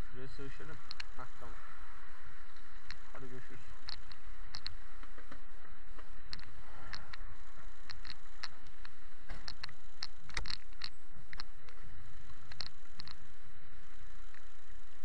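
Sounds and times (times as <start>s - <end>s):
motorcycle engine rumble: 0.0s - 15.0s
sharp clicks and ticks: 0.7s - 1.3s, 2.5s - 13.3s, 13.9s - 15.0s.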